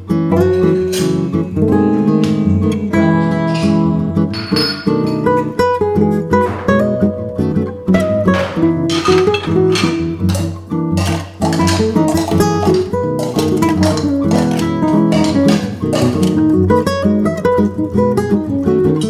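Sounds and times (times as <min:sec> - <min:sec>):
plucked acoustic guitar tune: 0:00.0 - 0:19.0.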